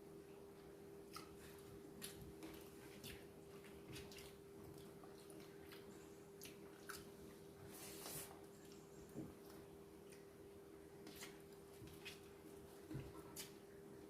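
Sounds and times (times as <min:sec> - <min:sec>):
soft chewing: 0:00.2 - 0:14.0.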